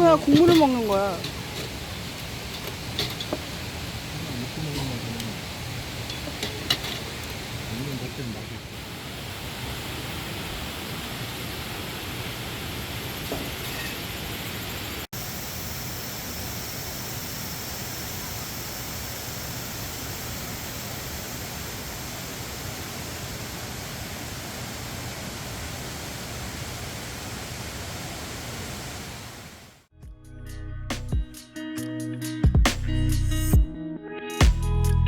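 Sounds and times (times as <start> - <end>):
stream rushing: 0.0 - 14.4, 15.7 - 29.8.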